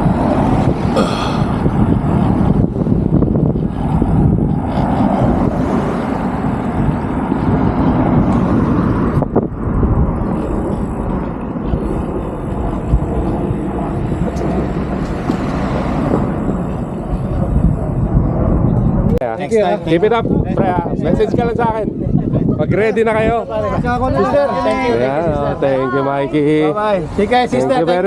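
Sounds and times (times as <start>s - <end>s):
road traffic rumble: 0.0s - 28.0s
wind on microphone: 0.0s - 28.0s.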